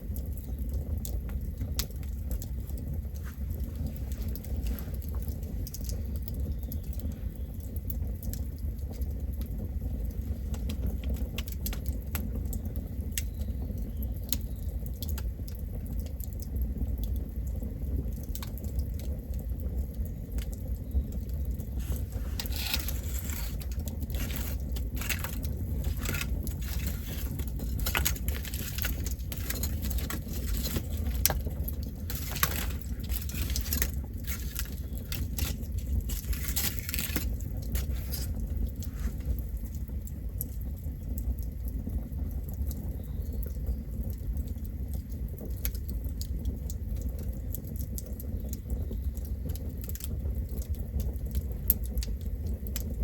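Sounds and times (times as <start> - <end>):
burning wood crackling: 0.0 - 53.0
campfire low rumble: 0.0 - 53.0.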